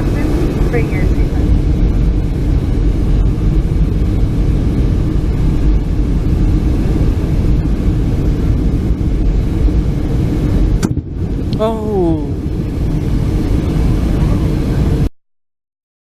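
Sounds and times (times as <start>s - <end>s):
airliner cabin engine roar: 0.0s - 15.1s.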